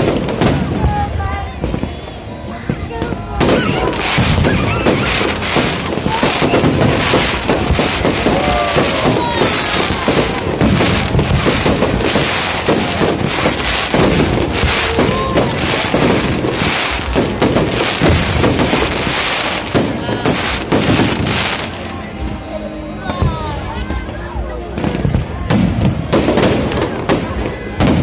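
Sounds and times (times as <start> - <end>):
fireworks bangs and crackle: 0.0 - 28.0.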